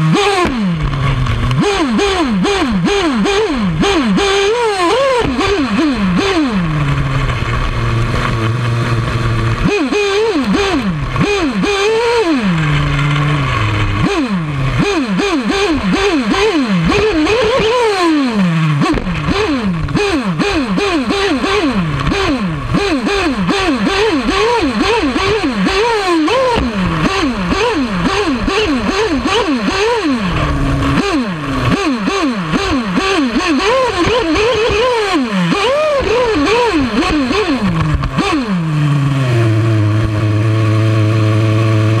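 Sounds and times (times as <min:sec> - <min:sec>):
small engine revving: 0:00.0 - 0:42.0.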